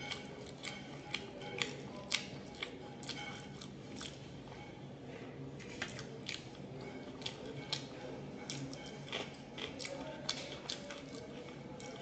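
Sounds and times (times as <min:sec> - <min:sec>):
person chewing food: 0:00.0 - 0:04.8, 0:05.6 - 0:12.0.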